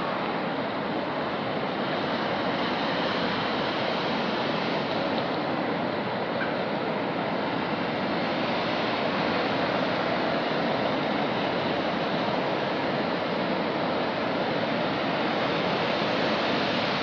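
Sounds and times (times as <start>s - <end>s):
water rushing over spillway: 0.0s - 17.0s.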